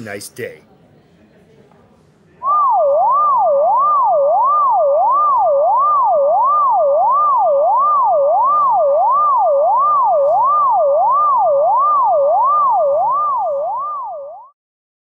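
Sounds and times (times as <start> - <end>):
electronic siren sweeping: 2.4 - 14.5.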